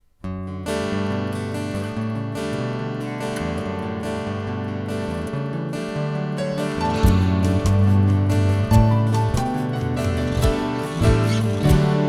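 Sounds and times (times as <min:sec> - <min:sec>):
acoustic guitar strumming chords: 0:00.4 - 0:12.0.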